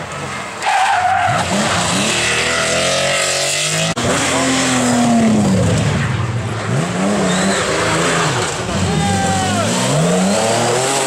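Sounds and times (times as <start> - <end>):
rally car engines revving: 0.0 - 11.0.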